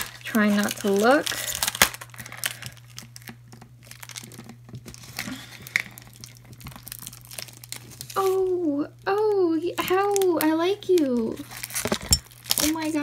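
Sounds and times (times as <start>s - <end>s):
plastic bag crinkling: 0.0s - 8.5s, 9.2s - 13.0s.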